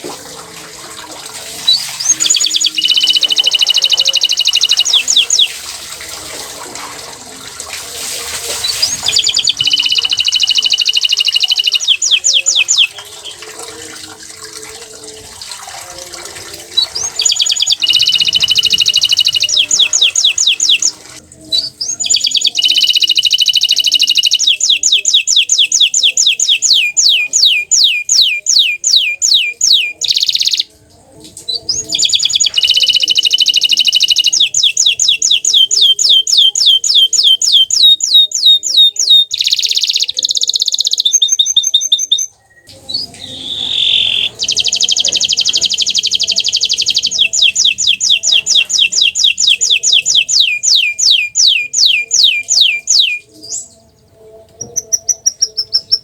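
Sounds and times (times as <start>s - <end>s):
canary singing: 1.6s - 5.6s, 8.5s - 13.8s, 16.6s - 30.7s, 31.4s - 56.0s.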